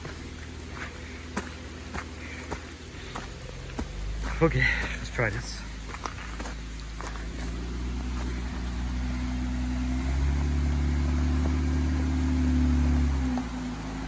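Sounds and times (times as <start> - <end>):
engine pulling under load: 0.0 - 14.0.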